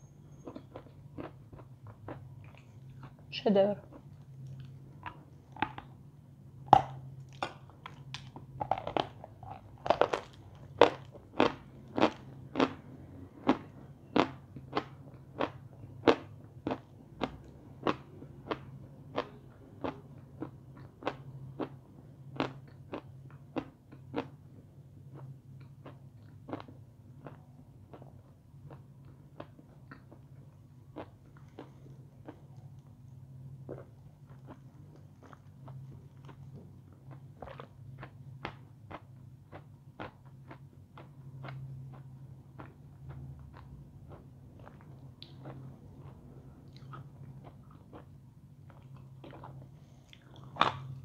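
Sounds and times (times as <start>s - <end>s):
crunching and chewing chalk: 0.3s - 6.0s, 6.6s - 51.0s.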